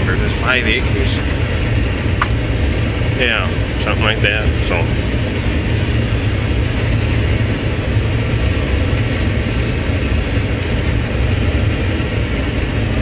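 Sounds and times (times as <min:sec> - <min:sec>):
harvester engine and chopping rumble: 0:00.0 - 0:13.0.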